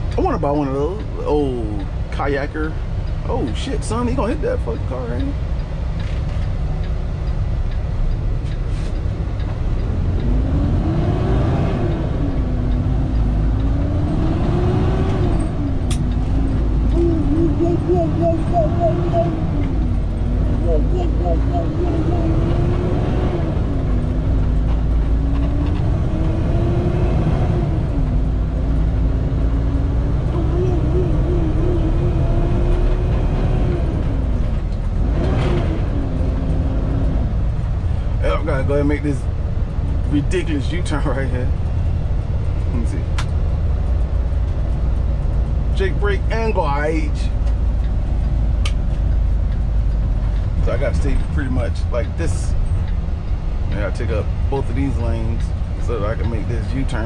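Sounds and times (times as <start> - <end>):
truck diesel engine rumbling: 0.0 - 57.0.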